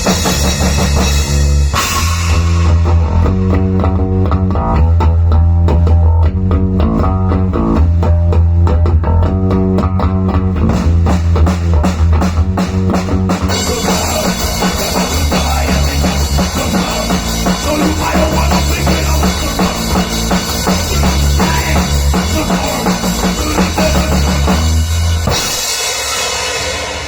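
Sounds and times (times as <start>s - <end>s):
bass guitar line: 0.0s - 26.0s
drum kit beat: 0.0s - 27.0s.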